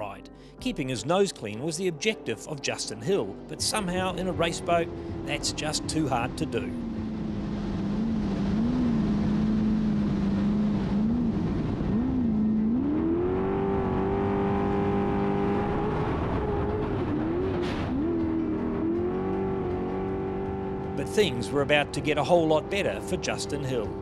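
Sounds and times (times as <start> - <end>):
boat engine running hard: 4.0 - 14.4, 15.0 - 24.0.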